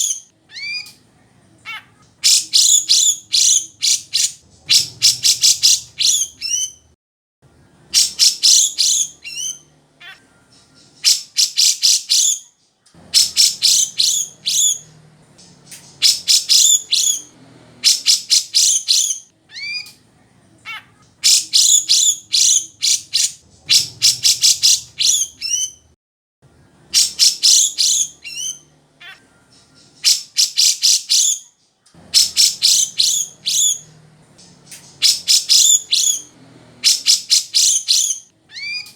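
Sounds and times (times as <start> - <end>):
bird singing high chattering notes: 0.0 - 1.0, 1.6 - 6.9, 7.6 - 19.9, 20.7 - 25.9, 26.5 - 38.9.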